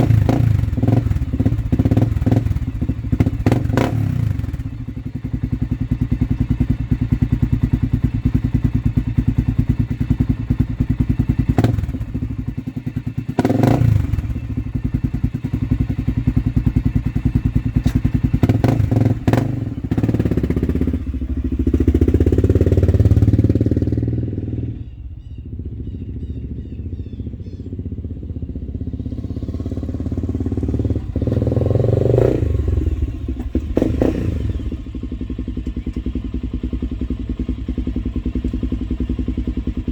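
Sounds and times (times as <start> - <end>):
engine idling and revving: 0.0 - 39.9.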